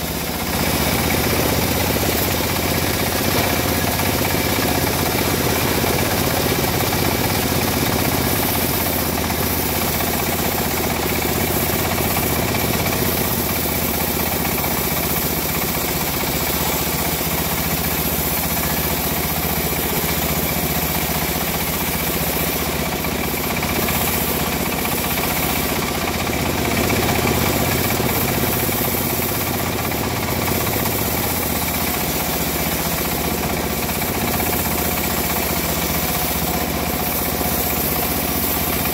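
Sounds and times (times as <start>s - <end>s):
saw engine running steadily: 0.0s - 38.9s.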